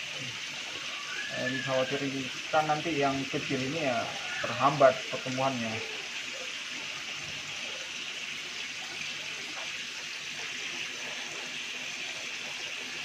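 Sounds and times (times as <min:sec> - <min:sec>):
water splashing into tanks: 0:00.0 - 0:13.0.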